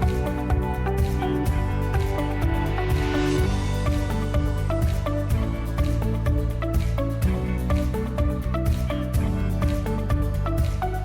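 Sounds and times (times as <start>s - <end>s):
melodic instrumental music: 0.0s - 11.0s
sustained bass: 0.0s - 11.0s.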